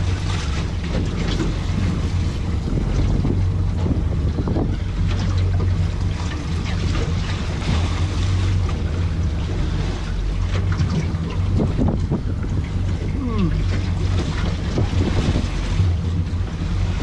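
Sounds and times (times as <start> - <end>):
boat engine running: 0.0 - 17.0
water noise: 0.0 - 17.0
wind: 0.0 - 17.0.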